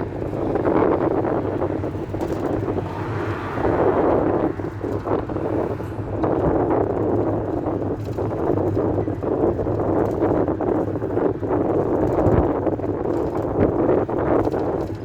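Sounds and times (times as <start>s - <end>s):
low engine hum: 0.0s - 15.0s
road and wind noise: 0.0s - 15.0s.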